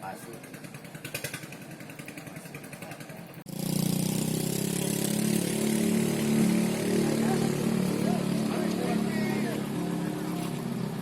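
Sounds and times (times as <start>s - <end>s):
engine running steadily: 0.2s - 11.0s.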